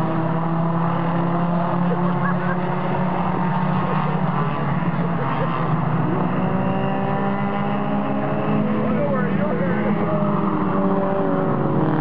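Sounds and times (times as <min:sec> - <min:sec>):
race car engines droning: 0:00.0 - 0:12.0.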